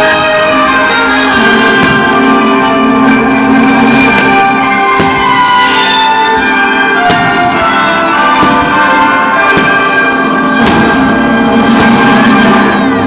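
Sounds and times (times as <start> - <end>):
loud show music: 0.0 - 13.0
firework shells bursting: 1.3 - 12.8.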